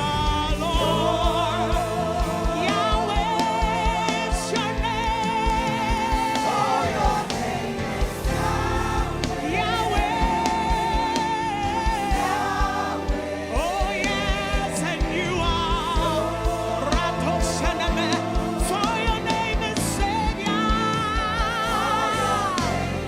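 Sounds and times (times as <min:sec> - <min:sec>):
band with steady drum beat: 0:00.0 - 0:23.0
gospel singers with vibrato: 0:00.0 - 0:23.0.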